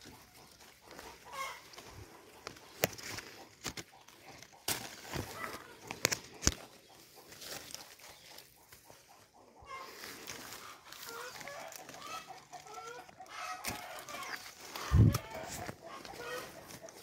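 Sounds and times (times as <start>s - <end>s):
branches and leaves snapping: 0.8s - 8.9s, 9.9s - 17.0s.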